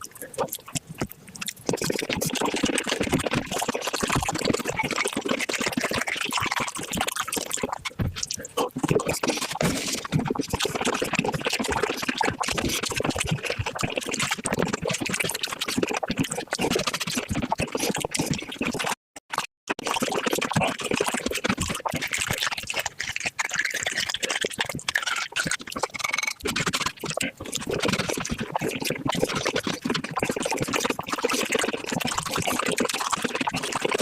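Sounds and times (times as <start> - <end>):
wet chewing and slurping: 0.0 - 34.0.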